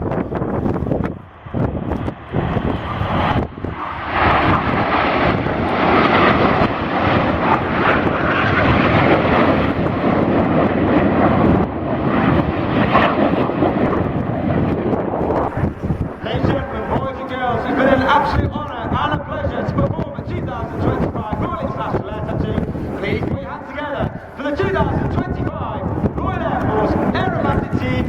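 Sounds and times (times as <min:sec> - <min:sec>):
aircraft flying past: 0:00.0 - 0:28.0.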